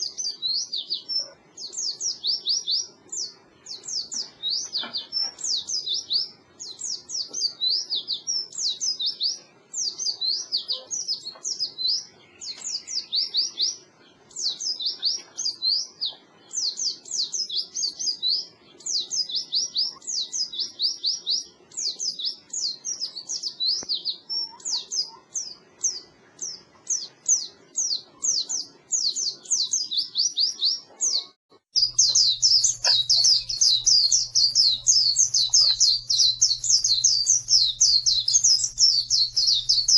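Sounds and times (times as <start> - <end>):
birds twittering song: 0.0 - 39.9.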